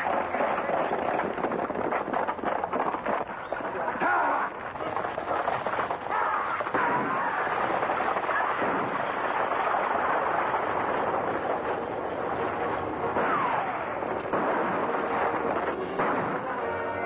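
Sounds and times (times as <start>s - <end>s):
horses galloping hooves clattering: 0.0s - 17.0s
rolling wheels: 0.0s - 17.0s
sharp cracks: 0.0s - 17.0s.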